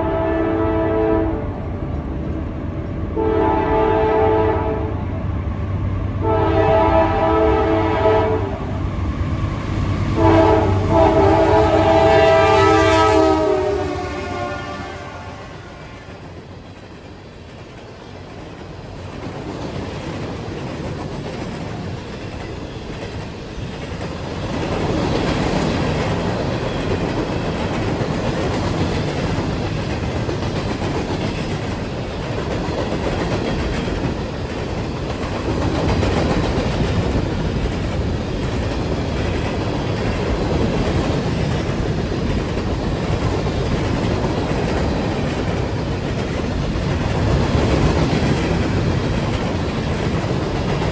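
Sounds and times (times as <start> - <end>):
clickety-clack of train cars: 0.0 - 50.9
train wheels rumbling on rails: 0.0 - 50.9.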